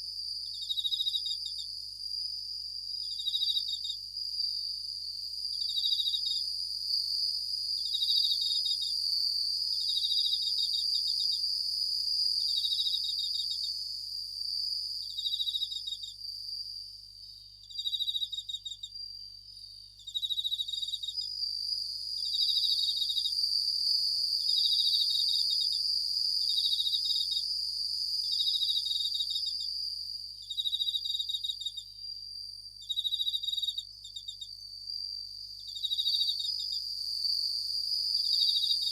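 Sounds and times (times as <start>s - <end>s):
crickets trilling: 0.0s - 38.9s
high insect ringing: 0.0s - 38.9s.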